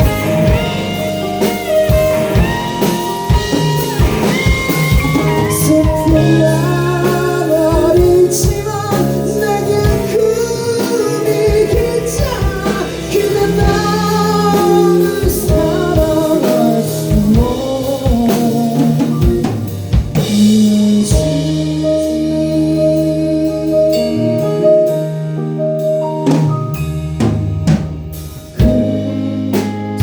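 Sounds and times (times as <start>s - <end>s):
drum kit beat: 0.0s - 30.0s
live band playing: 0.0s - 30.0s.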